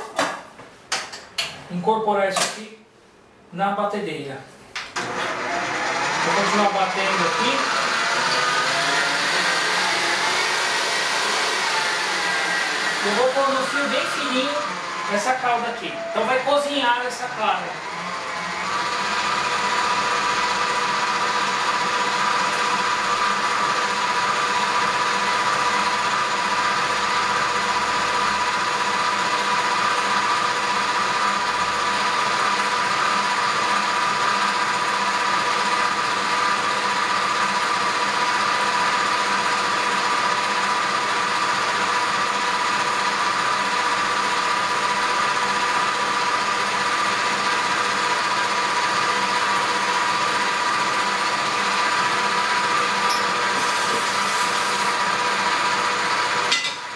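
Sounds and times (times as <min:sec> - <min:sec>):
stand mixer motor whine: 0:05.0 - 0:56.9.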